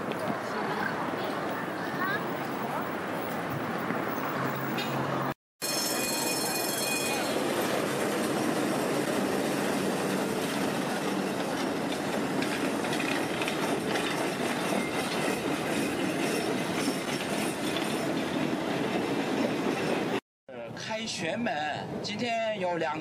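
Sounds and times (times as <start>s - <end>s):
tram rumbling past on rails: 0.0s - 20.2s.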